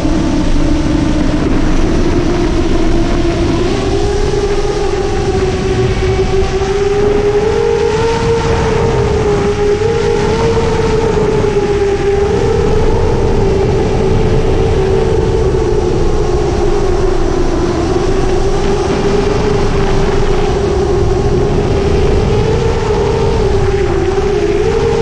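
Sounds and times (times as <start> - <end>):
low rumble: 0.0 - 24.7
drone motors whining: 0.0 - 25.0.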